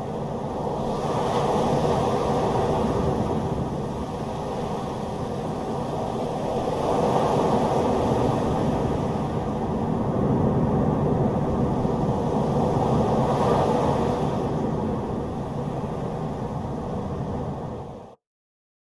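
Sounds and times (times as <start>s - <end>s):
strong storm wind blowing: 0.1s - 18.1s.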